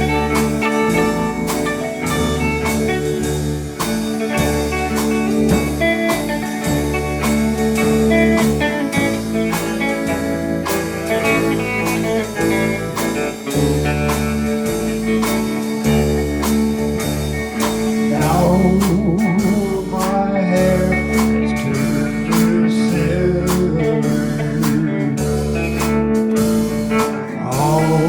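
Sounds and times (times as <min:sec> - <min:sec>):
country band playing: 0:00.0 - 0:28.0
guitar lead: 0:00.0 - 0:28.0.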